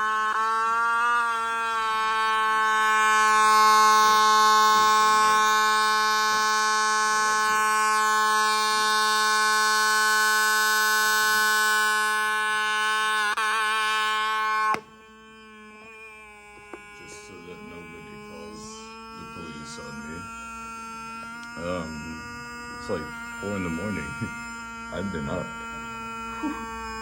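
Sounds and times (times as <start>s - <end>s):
electronic siren buzzy tone: 0.0s - 27.0s.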